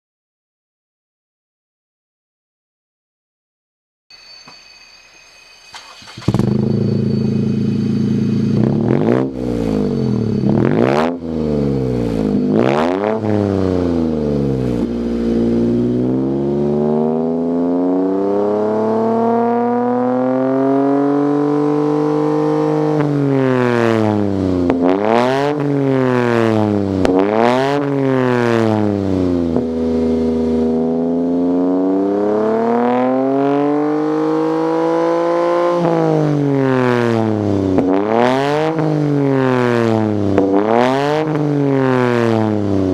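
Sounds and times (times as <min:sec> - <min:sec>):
car engine revving: 0:05.7 - 0:42.9.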